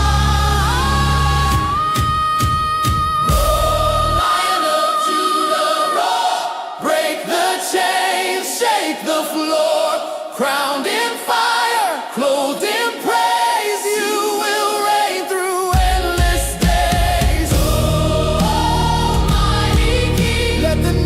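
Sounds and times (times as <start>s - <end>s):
choir singing worship song: 0.0s - 21.0s.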